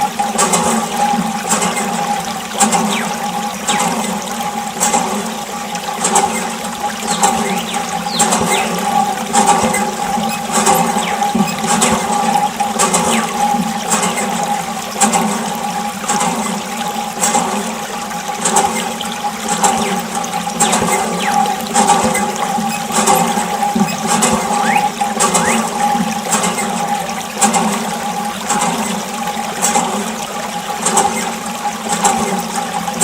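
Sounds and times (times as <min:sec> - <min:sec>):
electric water pump hum: 0:00.0 - 0:33.0
water gushing and splashing: 0:00.0 - 0:33.0.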